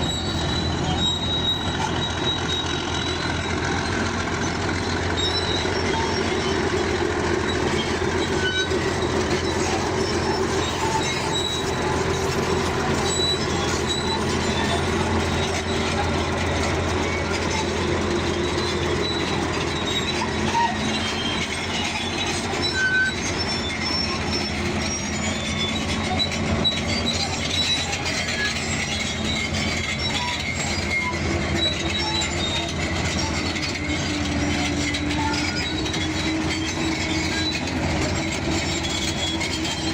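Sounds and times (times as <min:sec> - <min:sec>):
bulldozer diesel engine running: 0:00.0 - 0:39.9
high metallic squeaks: 0:00.0 - 0:39.9
steel tracks clattering: 0:00.0 - 0:39.9.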